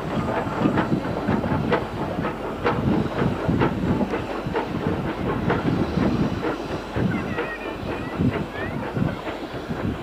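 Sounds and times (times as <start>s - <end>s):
hiss of steam: 0.0s - 10.0s
steam locomotive running past: 0.0s - 10.0s.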